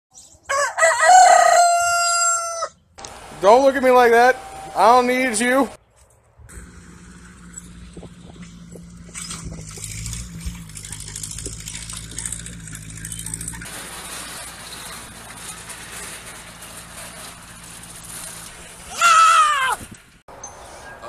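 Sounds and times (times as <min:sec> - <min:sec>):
tractor engine running: 0:03.0 - 0:21.0.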